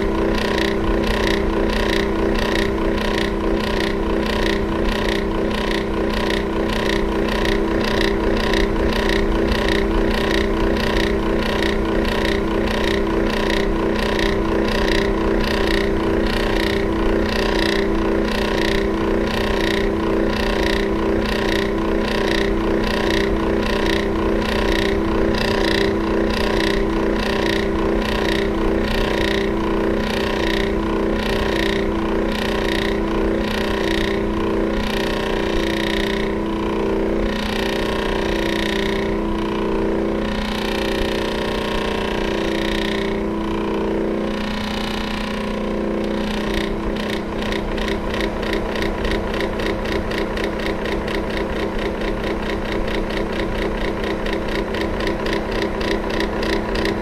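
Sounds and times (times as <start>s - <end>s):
electric fan motor hum: 0.0s - 57.0s
fan ticking: 0.0s - 57.0s.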